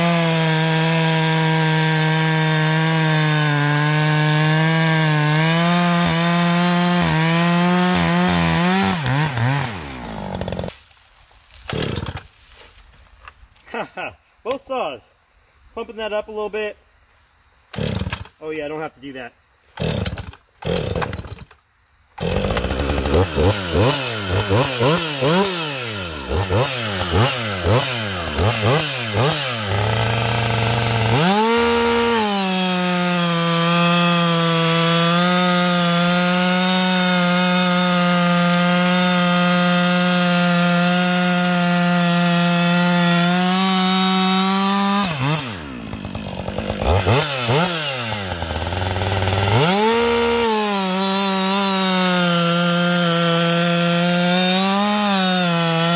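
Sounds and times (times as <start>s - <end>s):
chainsaw revving: 0.0s - 10.8s, 11.6s - 12.3s, 17.7s - 18.3s, 19.8s - 21.6s, 22.2s - 55.9s
chainsaw cutting through log: 0.0s - 12.4s, 17.7s - 18.7s, 19.7s - 55.9s.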